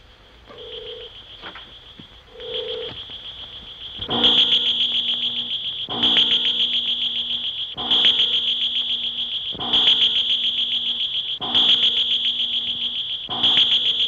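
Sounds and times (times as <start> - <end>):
deep sustained electronic hums: 0.0 - 14.0
high rapid pulsing electronic trill: 2.5 - 14.0.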